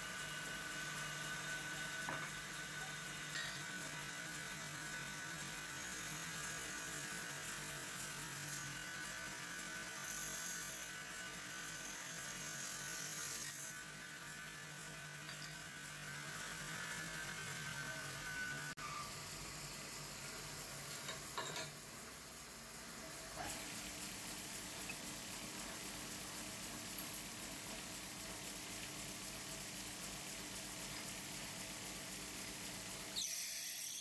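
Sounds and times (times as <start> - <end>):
metal-spinning lathe humming: 0.0 - 30.2.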